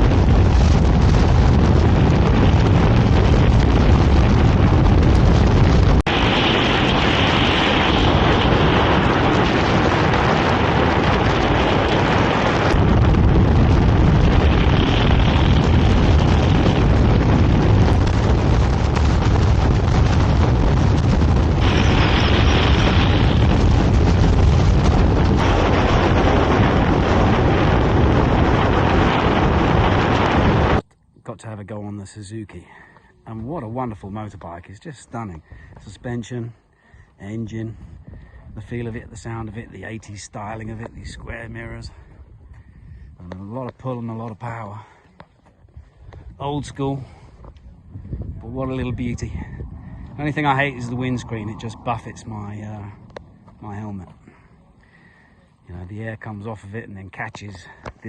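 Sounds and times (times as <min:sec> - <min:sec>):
wind buffeting microphone: 0:00.0 - 0:31.3, 0:33.2 - 0:58.0.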